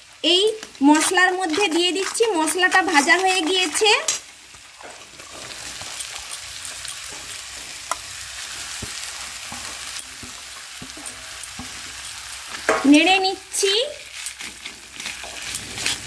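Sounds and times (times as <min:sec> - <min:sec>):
food sizzling in hot pan: 0:00.0 - 0:16.0
spatula scraping pan: 0:00.5 - 0:13.0, 0:14.1 - 0:16.0.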